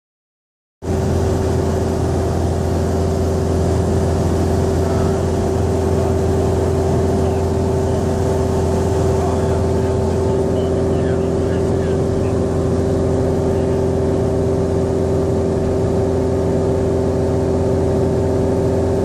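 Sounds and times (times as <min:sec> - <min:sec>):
aircraft engine and propeller drone: 0:00.8 - 0:19.0.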